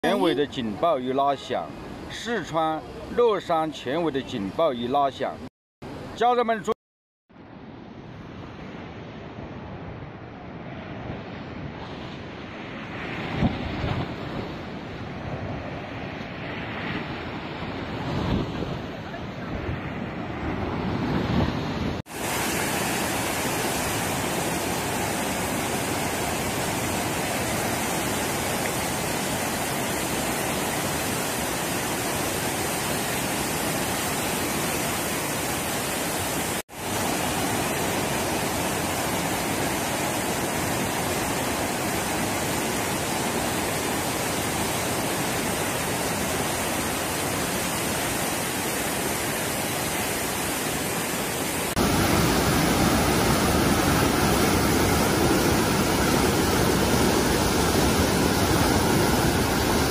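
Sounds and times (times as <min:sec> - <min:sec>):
floodwater rushing roar: 0:00.0 - 0:06.7, 0:10.2 - 0:59.9.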